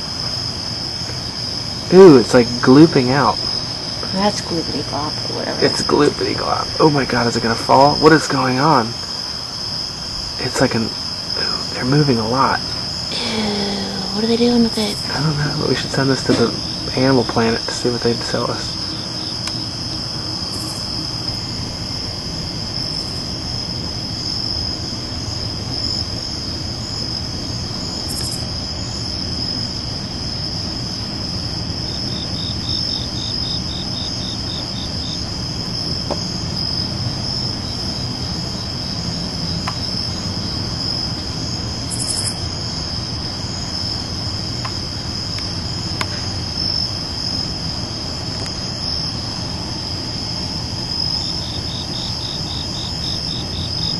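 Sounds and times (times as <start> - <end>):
crickets chirping: 0.0 - 53.9
low background rumble: 0.0 - 53.9.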